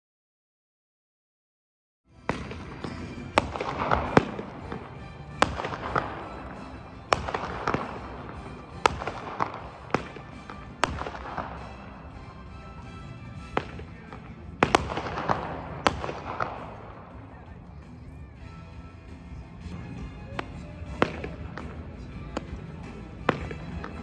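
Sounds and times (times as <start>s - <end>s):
firework shots: 2.2s - 17.6s, 19.9s - 24.0s
firework crackling: 2.2s - 18.5s, 20.0s - 24.0s.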